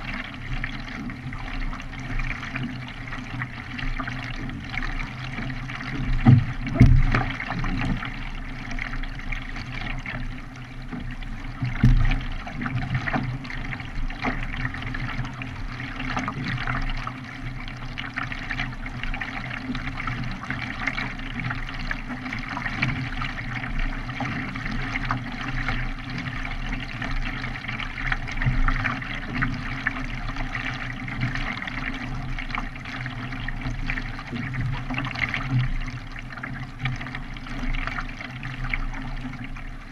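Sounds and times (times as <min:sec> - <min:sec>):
water splashing from paddling: 0:00.0 - 0:39.9.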